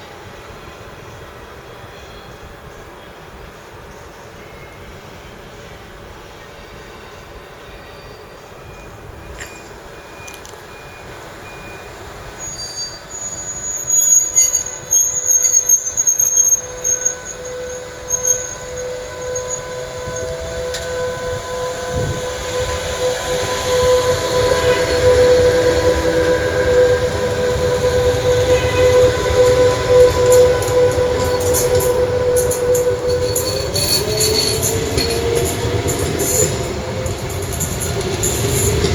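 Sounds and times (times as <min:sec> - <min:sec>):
electric train whine: 0:00.0 - 0:38.9
train rumble: 0:00.0 - 0:38.9
train wheel squealing: 0:06.3 - 0:38.9.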